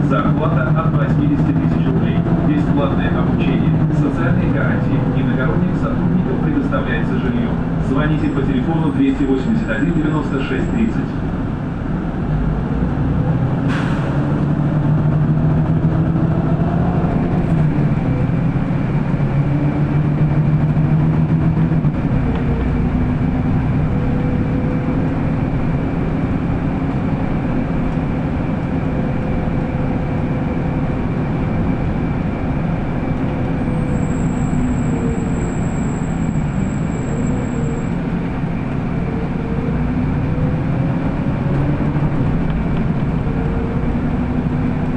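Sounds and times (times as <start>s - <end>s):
bus running and road noise: 0.0s - 44.9s.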